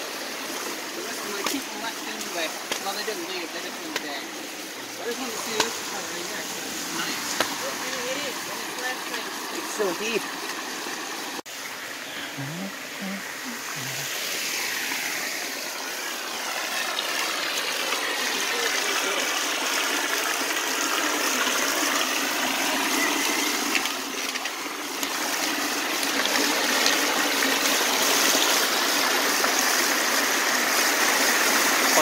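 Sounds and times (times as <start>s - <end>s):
creek rushing over rocks: 0.0s - 32.0s.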